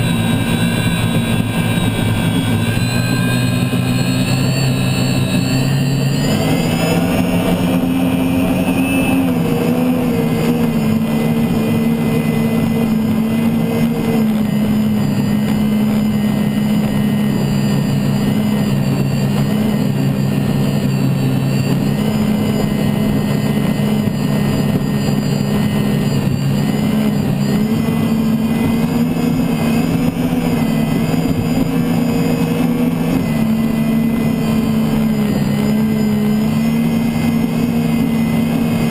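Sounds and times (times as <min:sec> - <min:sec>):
rushing noise: 0:00.0 - 0:38.9
turbine engine whine: 0:00.0 - 0:38.9.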